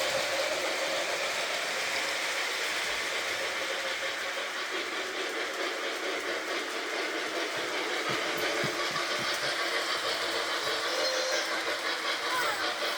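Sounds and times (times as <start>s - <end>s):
model train motor whirring: 0.0s - 12.9s.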